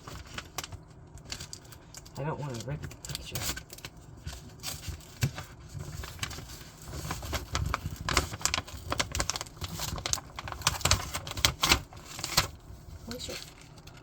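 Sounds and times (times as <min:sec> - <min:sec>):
paper and tape crackling: 0:00.0 - 0:14.0.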